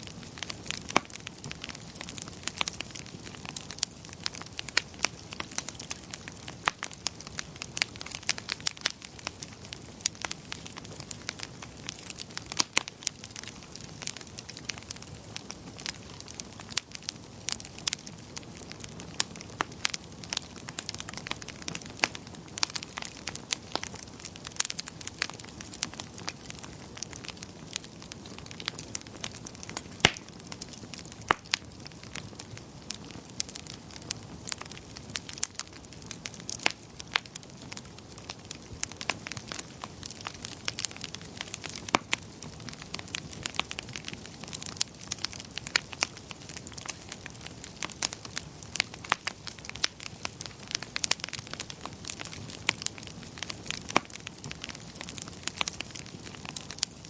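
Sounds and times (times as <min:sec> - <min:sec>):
low hiss of burning: 0:00.0 - 0:57.0
wood fire crackling: 0:00.0 - 0:57.0.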